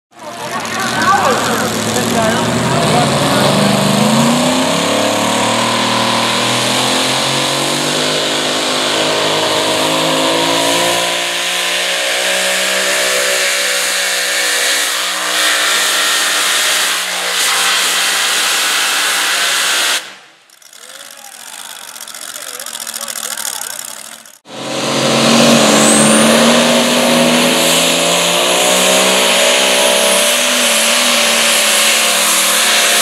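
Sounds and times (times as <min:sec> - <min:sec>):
supercharged truck engine revving: 0:00.2 - 0:33.0.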